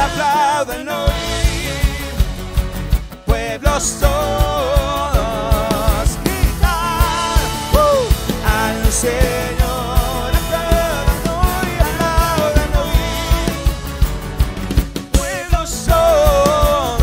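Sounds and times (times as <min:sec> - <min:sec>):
man and woman singing: 0:00.0 - 0:02.4, 0:03.2 - 0:14.1, 0:15.1 - 0:17.0
acoustic guitar: 0:00.0 - 0:17.0
drum kit beat: 0:00.0 - 0:17.0.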